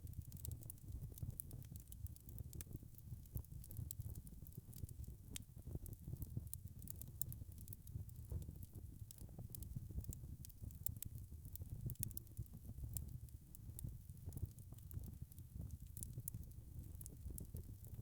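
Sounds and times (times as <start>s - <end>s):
wood fire crackling: 0.1s - 18.0s.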